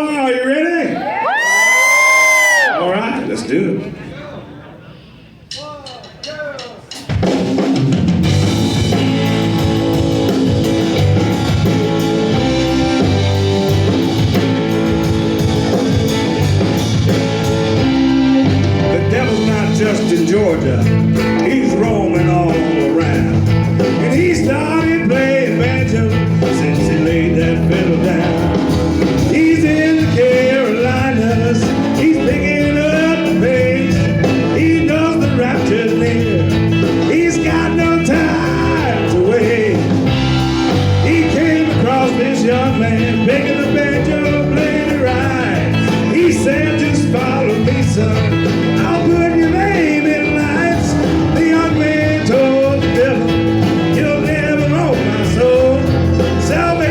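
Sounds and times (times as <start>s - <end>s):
live band playing: 1.0s - 2.8s, 5.2s - 56.9s
lead singer singing: 8.9s - 56.9s.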